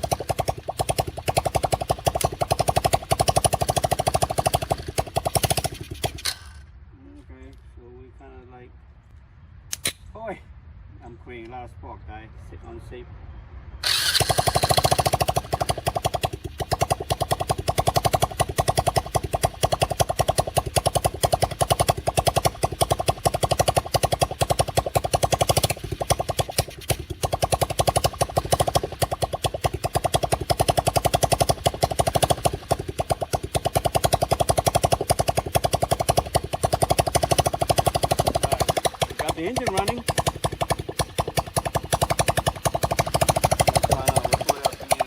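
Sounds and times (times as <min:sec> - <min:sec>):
small atv engine running: 0:00.0 - 0:06.7, 0:13.8 - 0:45.0.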